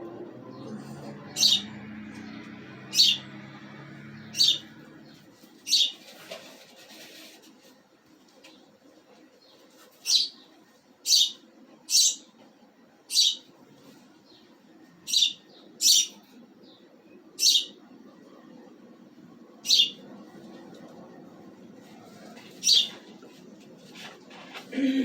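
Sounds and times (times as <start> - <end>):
birds chirping: 0.0 - 6.3, 8.4 - 12.4, 13.1 - 23.5.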